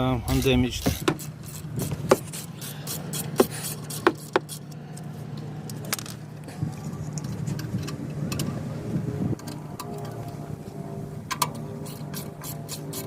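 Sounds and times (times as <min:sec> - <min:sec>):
steady low hum: 0:00.0 - 0:13.0
metallic clicks and scraping: 0:00.2 - 0:08.6, 0:09.4 - 0:13.0.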